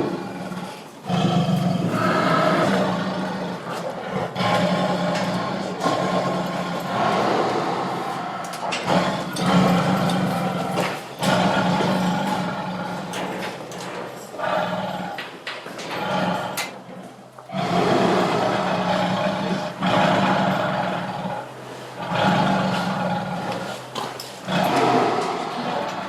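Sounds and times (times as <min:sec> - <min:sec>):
tiger growling and roaring: 0:00.0 - 0:26.0.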